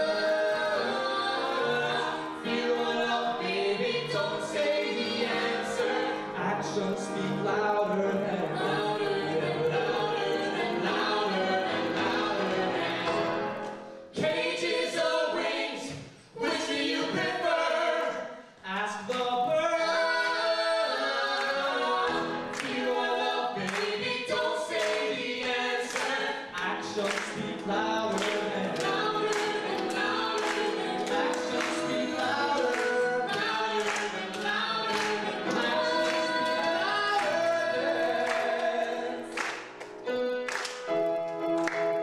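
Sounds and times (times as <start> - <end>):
group singing in harmony: 0.0 - 18.5, 19.4 - 40.6.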